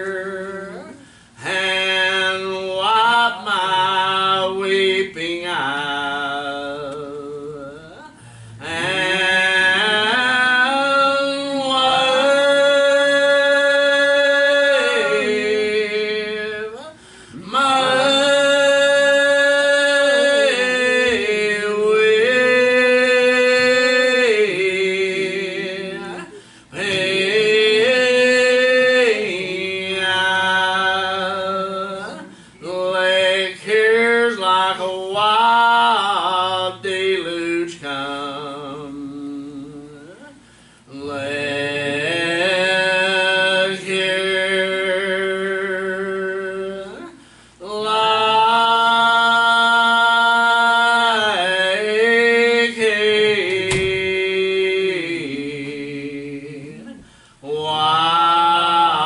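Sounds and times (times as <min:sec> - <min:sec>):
voices singing a hymn: 0:00.0 - 0:59.0.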